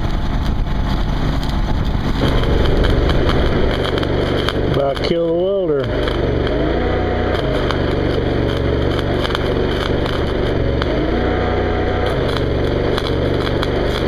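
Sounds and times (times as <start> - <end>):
welder engine revving: 0.0 - 14.0
welding arc crackling: 0.0 - 14.0.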